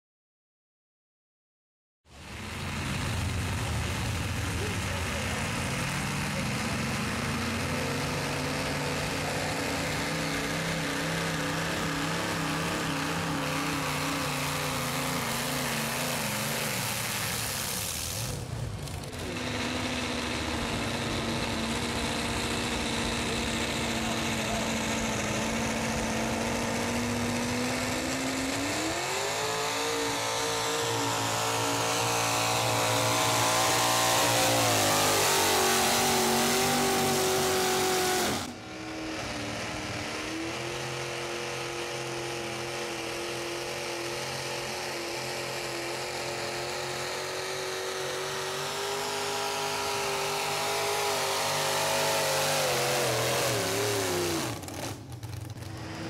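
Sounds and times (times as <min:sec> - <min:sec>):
truck engine at full throttle: 0:02.1 - 0:56.0.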